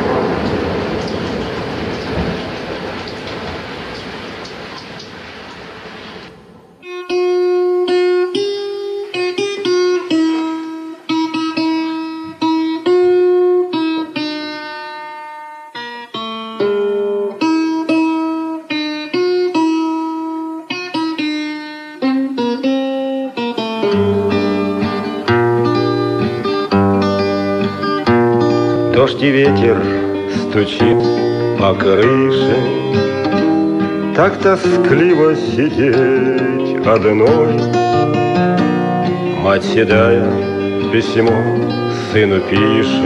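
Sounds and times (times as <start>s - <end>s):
plucked lead melody: 6.8s - 43.0s.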